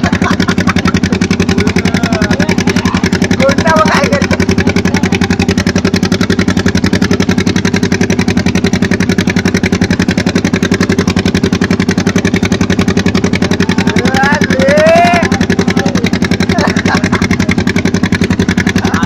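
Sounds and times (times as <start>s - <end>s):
boat engine chugging: 0.0s - 19.0s.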